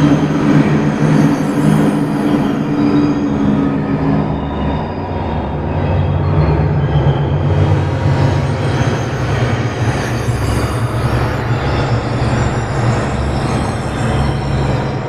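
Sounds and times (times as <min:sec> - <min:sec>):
electronic low rumble: 0:00.0 - 0:15.0.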